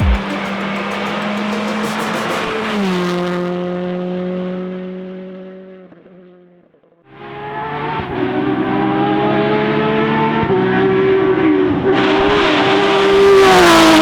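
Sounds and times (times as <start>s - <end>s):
second rally car engine: 0.0s - 14.0s
rally car passing at speed: 0.2s - 14.0s.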